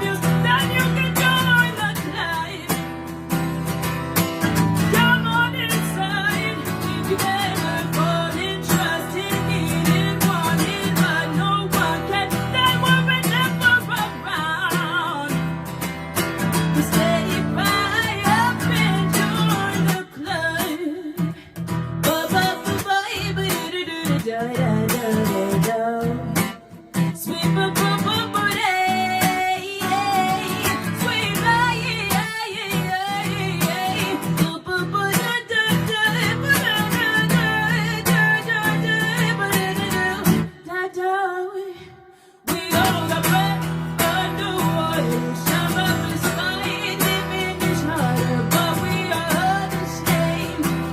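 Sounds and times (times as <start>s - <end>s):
strummed guitar: 0.0s - 41.1s, 42.5s - 50.9s
woman singing: 0.0s - 50.9s.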